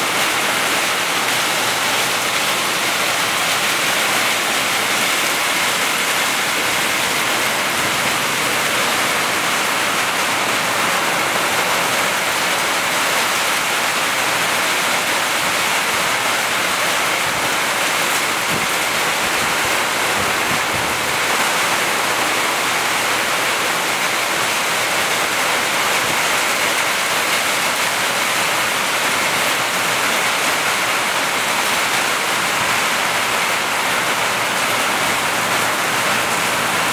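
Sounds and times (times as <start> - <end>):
heavy rain: 0.0 - 36.9
water pouring off roof: 0.0 - 36.9.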